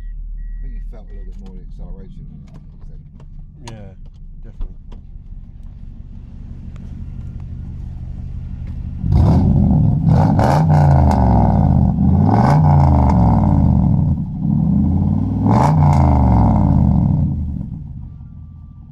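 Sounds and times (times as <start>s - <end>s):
car engine idling and revving: 0.0s - 18.9s.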